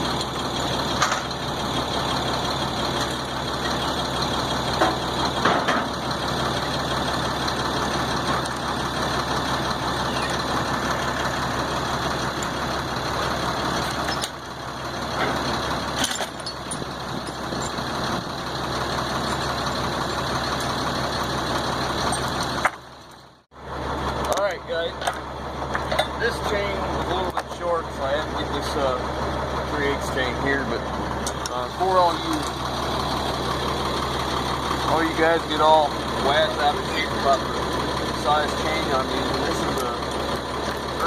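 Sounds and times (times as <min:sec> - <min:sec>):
large engine idling: 0:00.0 - 0:41.0.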